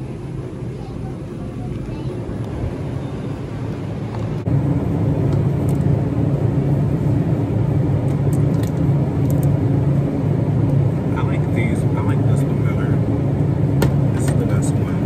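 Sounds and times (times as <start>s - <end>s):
refrigerated display cases humming: 0.0s - 15.0s.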